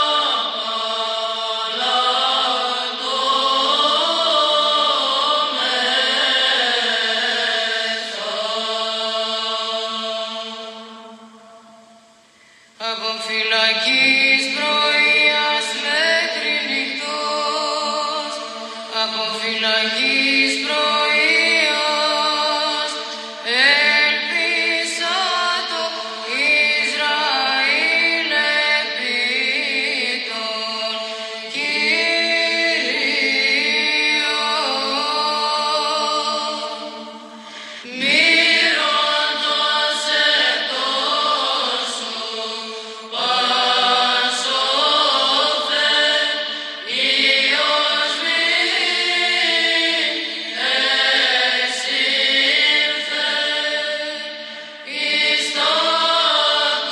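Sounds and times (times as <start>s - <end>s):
choral chant: 0.0s - 56.9s.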